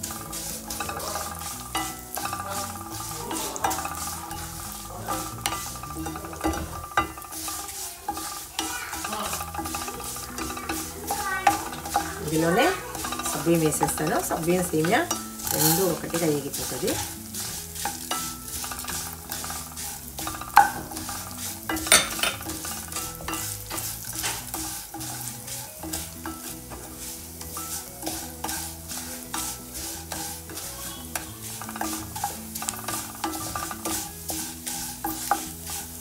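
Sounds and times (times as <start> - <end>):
spatula scraping frying pan: 0.0 - 36.0.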